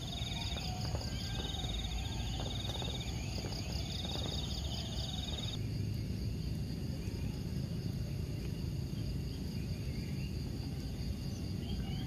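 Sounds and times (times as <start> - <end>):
insects chirring: 0.0 - 12.0
low steady rumble: 0.0 - 12.0.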